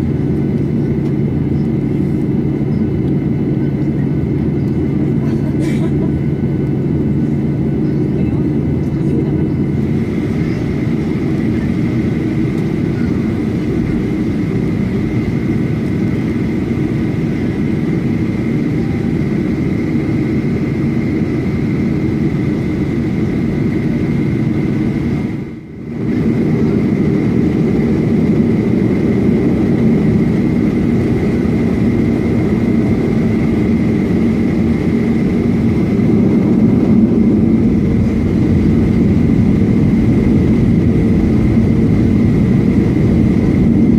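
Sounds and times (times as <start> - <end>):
jet engine high whine: 0.0 - 43.9
jet engine low rumble: 0.0 - 43.9.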